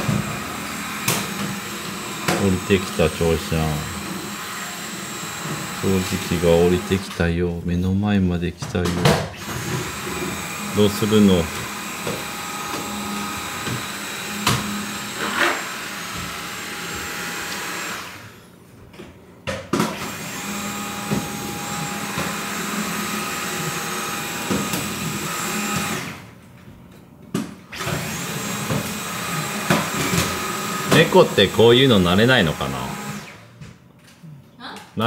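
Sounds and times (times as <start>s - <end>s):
vacuum cleaner motor whine: 0.0s - 7.3s, 9.4s - 18.5s, 19.9s - 26.3s, 27.7s - 33.4s.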